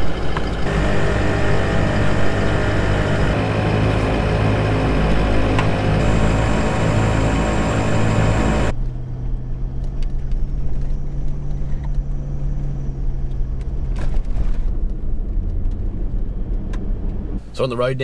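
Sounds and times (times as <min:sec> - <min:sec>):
car engine drone: 0:00.0 - 0:17.6.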